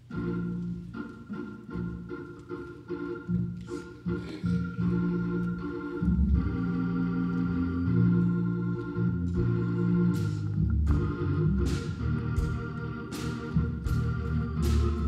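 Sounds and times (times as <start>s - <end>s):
organ playing slow chords: 0.0s - 15.0s.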